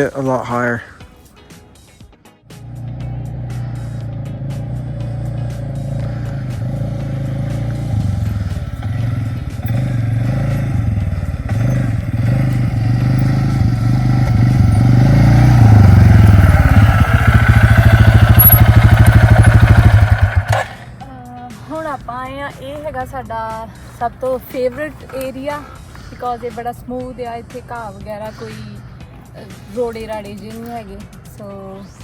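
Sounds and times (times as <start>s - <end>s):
atv engine running: 1.3s - 32.0s.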